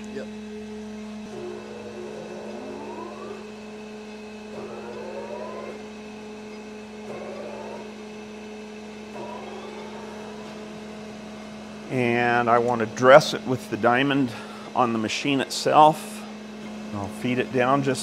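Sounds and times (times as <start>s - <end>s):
grinder machine humming: 0.0s - 18.0s
motor whining: 0.0s - 18.0s.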